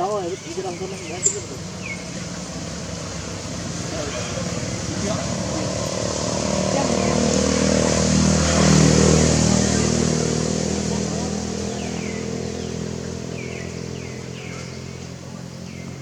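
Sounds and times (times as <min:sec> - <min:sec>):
high falling calls: 0:00.0 - 0:16.0
vehicle engine passing: 0:00.0 - 0:16.0.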